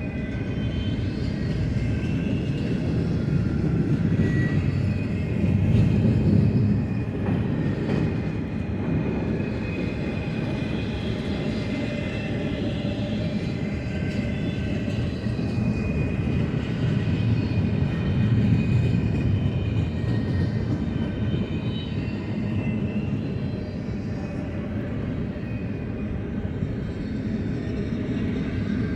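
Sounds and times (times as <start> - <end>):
freight train rumbling past: 0.0 - 28.9.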